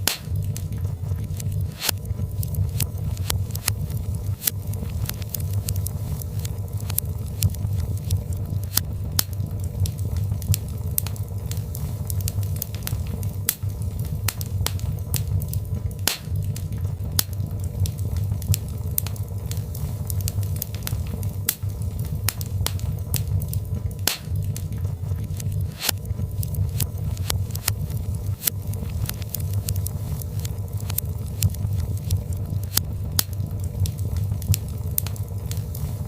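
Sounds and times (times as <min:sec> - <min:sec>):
fire crackles and pops: 0:00.0 - 0:36.0
low rumble of flame: 0:00.0 - 0:36.0.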